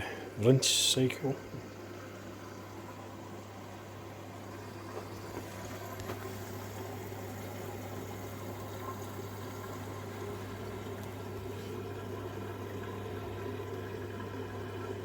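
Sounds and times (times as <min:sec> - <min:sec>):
water running into drum: 0:00.0 - 0:15.0.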